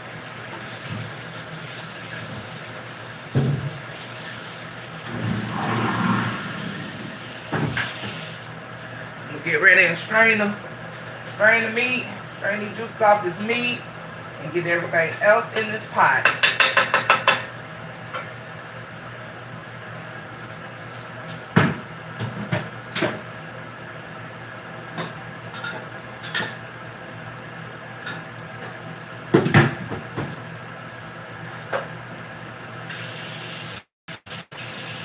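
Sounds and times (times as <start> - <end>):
steady background hum: 4.2 - 32.6.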